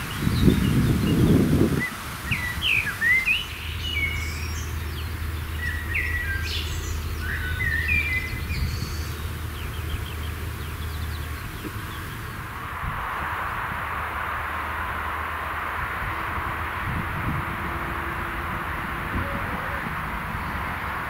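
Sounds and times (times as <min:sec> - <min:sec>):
songbirds chirping: 0:00.0 - 0:21.0
steady low hum: 0:00.0 - 0:21.0.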